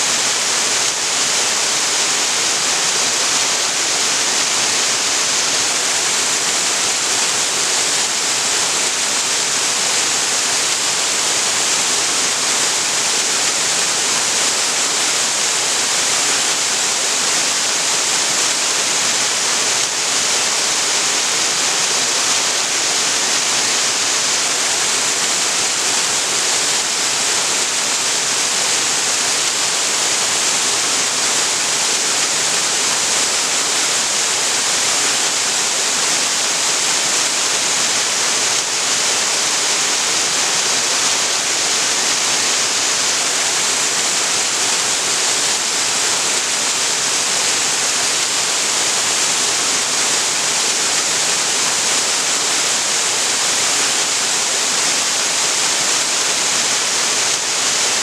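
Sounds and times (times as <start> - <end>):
waterfall pouring into creek: 0.0 - 58.0.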